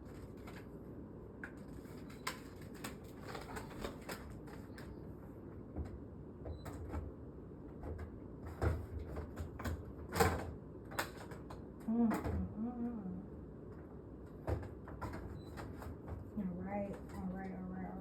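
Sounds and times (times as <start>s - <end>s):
air conditioner panels clicking and knocking: 0.0s - 12.7s, 13.4s - 18.0s.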